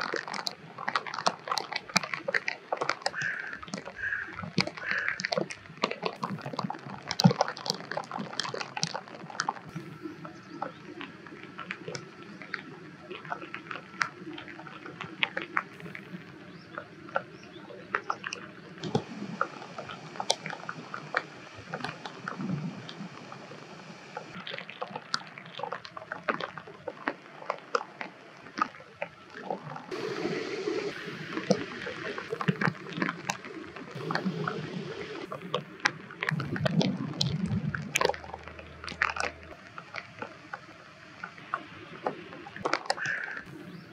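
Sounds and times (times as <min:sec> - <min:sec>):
sharp water drips: 0:00.0 - 0:43.9
water sloshing and gurgling: 0:00.0 - 0:43.9.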